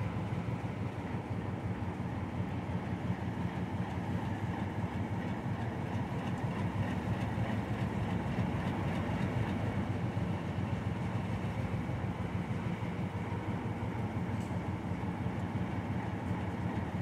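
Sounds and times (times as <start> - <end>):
diesel locomotive engine: 0.0 - 17.0.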